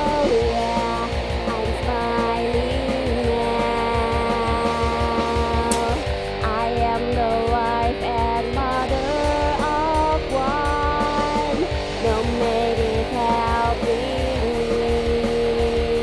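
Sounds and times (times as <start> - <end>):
song with guitar and beat: 0.0 - 16.0.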